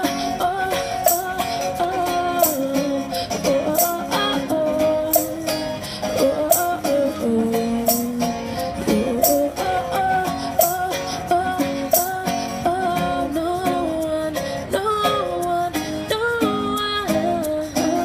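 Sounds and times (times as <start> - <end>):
acoustic guitar strumming: 0.0 - 18.0
person singing: 0.0 - 18.0.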